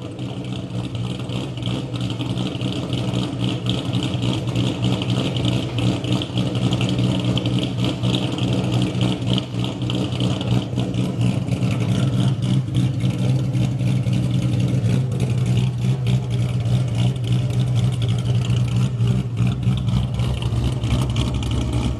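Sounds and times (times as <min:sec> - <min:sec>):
car engine idling unevenly: 0:00.0 - 0:21.9.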